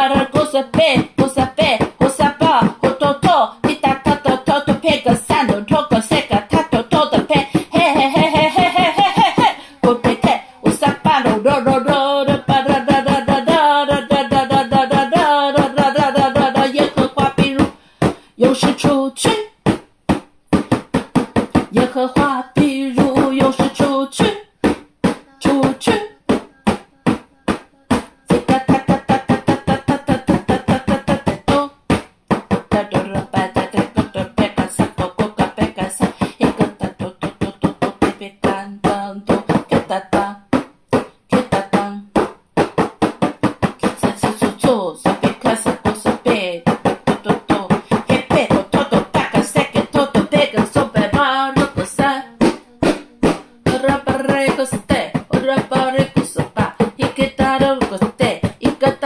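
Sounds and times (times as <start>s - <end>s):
person chanting rapid syllables: 0.0s - 19.7s, 20.5s - 42.3s, 43.5s - 59.0s.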